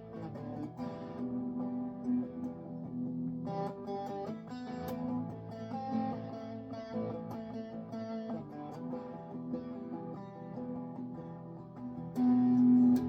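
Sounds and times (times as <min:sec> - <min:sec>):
electric guitar chords and notes: 0:00.0 - 0:13.0.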